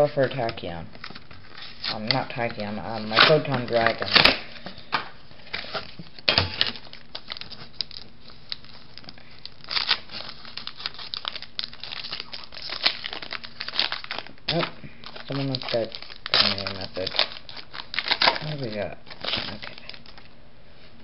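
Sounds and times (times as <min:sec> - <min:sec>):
foil wrapper crinkling: 0:00.2 - 0:20.3.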